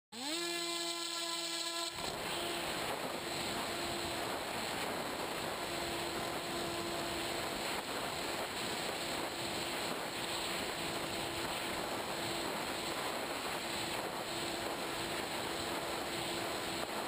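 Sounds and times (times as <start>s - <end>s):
electric motor humming: 0.1s - 17.0s
wind rush on microphone: 1.9s - 17.0s.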